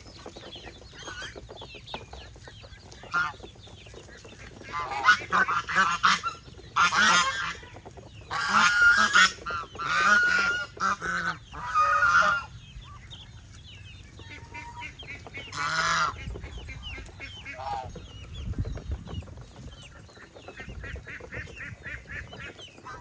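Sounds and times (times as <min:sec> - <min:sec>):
geese honking: 0:00.0 - 0:13.0, 0:14.1 - 0:18.1, 0:19.9 - 0:23.0.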